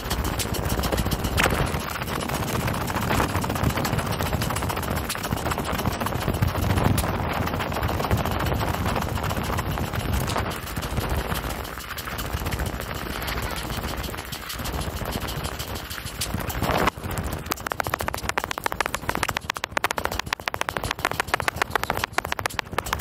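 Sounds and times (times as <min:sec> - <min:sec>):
bike rattling over bumps: 0:00.0 - 0:23.0
wind rumble on microphone: 0:00.0 - 0:23.0.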